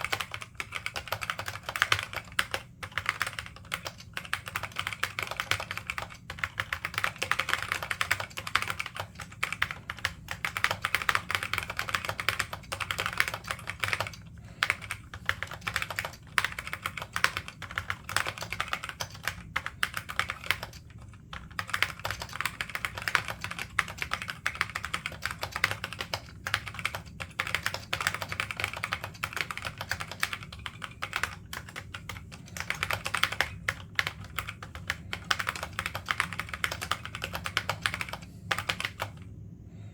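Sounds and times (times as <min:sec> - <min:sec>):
clicky keyboard typing: 0:00.0 - 0:39.3.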